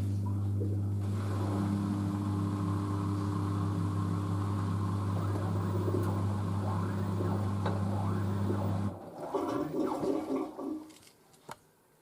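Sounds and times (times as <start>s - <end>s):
washer dryer humming: 0.0s - 10.9s.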